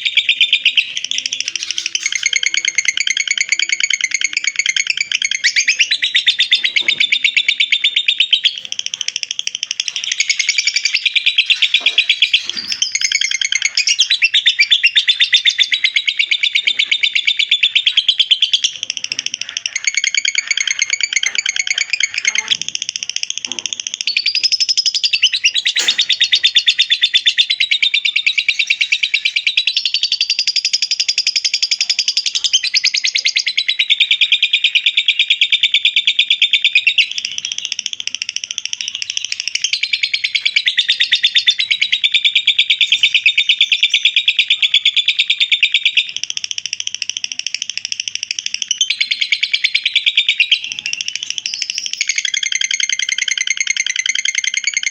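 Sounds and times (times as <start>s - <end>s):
lovebird chattering trill: 0.0s - 54.9s.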